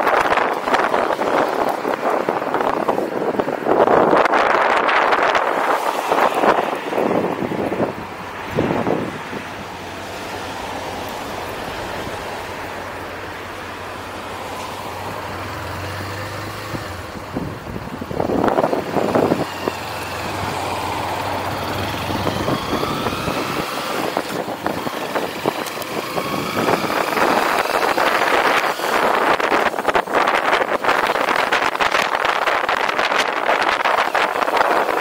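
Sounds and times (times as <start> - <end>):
wind buffeting microphone: 0.0 - 12.8, 14.2 - 35.0
motorcycle engine: 0.0 - 35.0.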